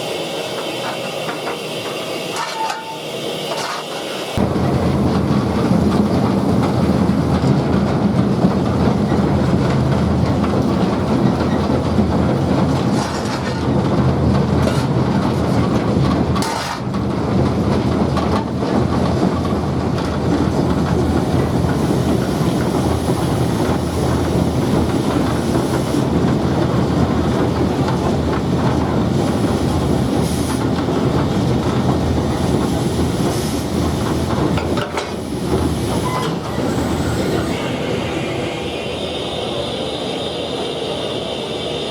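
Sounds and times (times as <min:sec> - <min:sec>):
wheels clattering on rails: 0:00.0 - 0:38.3
train rumble: 0:00.0 - 0:41.9.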